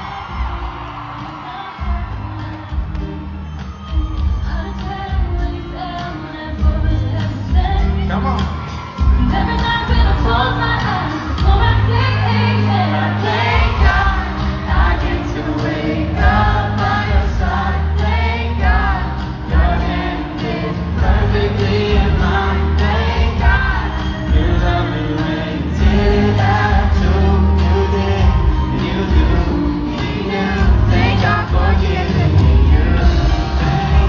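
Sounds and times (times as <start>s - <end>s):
live country-pop duet with band: 0.0s - 34.0s.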